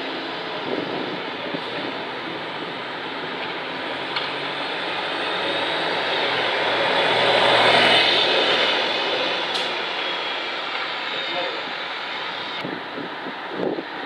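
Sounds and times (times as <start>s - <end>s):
bus driving past: 0.0s - 13.8s.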